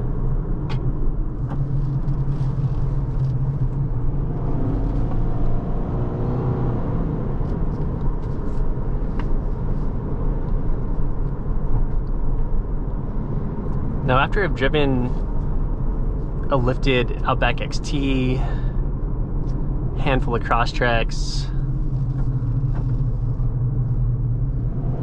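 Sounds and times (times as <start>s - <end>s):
car cabin road and engine noise: 0.0s - 25.0s.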